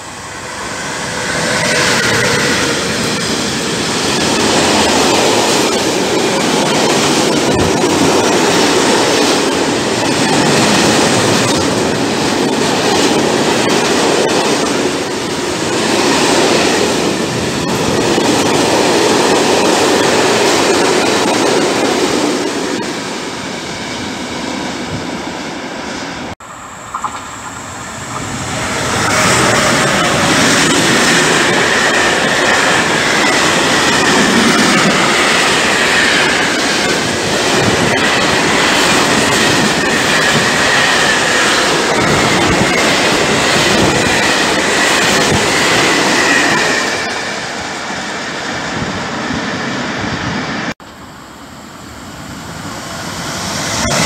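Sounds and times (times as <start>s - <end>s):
high-pitched squeal: 0.0s - 12.6s, 22.5s - 54.0s.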